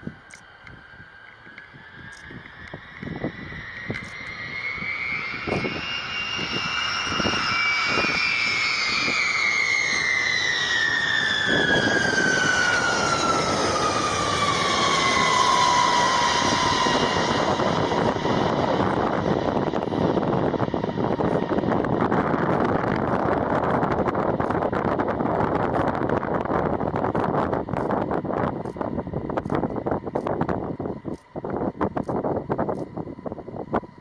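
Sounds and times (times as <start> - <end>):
jet engine whine: 0.0 - 34.0
jet roar: 0.0 - 34.0.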